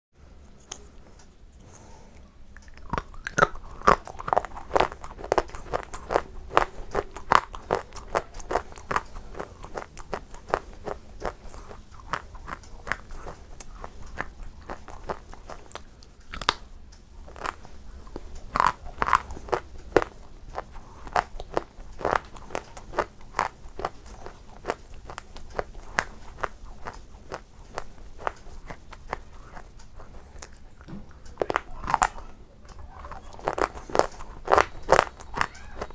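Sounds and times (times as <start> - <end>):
chewing and crunching shale: 0.4 - 35.9.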